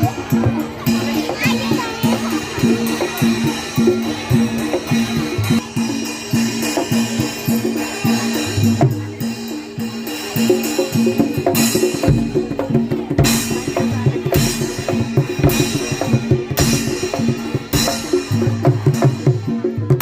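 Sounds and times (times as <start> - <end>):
ringing metallophone notes: 0.0 - 19.5
hand drum beats: 0.0 - 20.0.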